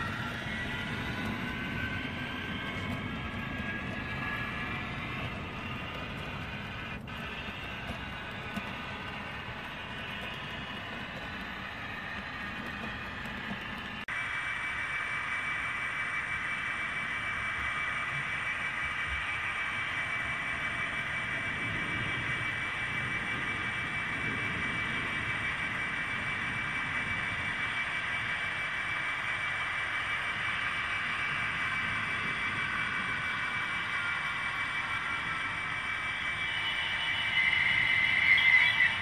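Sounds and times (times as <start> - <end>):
model locomotive humming: 0.0 - 39.0
wheels rumbling on rails: 0.0 - 39.0.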